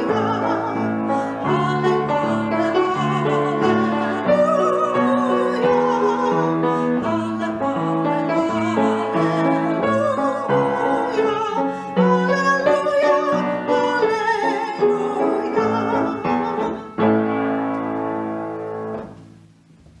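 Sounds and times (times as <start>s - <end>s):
instrumental piano music: 0.0s - 20.0s.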